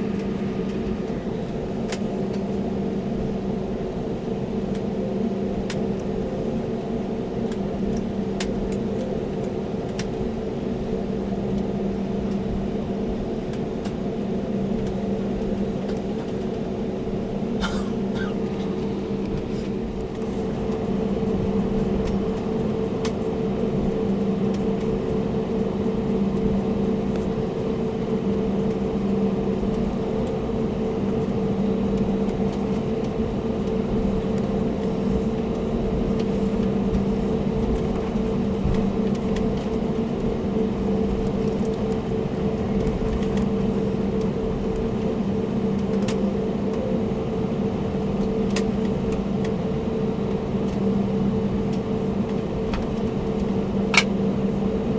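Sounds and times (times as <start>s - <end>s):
airliner cabin engine hum: 0.0s - 54.9s.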